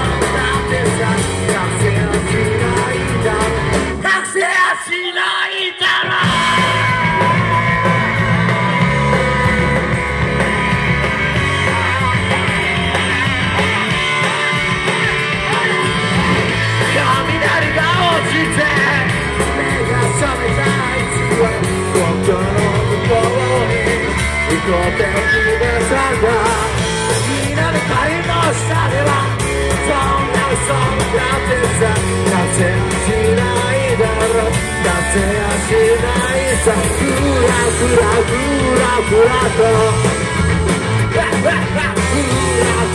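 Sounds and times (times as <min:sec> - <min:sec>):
electric guitar: 0:00.0 - 0:04.6, 0:05.2 - 0:42.9
person singing: 0:00.0 - 0:40.2, 0:41.0 - 0:42.9
live rock band playing: 0:00.0 - 0:42.9.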